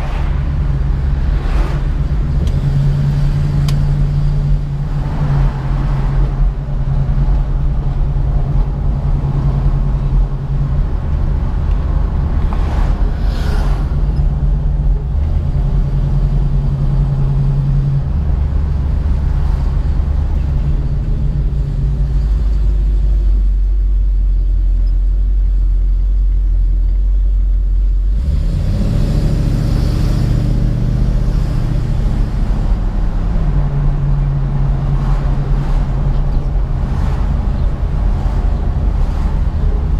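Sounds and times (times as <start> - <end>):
car engine droning on the road: 0.0 - 39.9.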